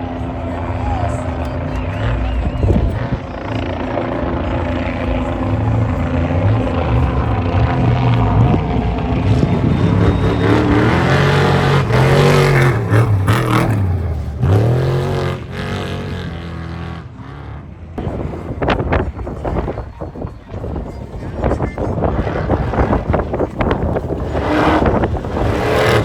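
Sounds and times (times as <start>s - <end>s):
race vehicle engine at high revs: 0.0s - 26.0s.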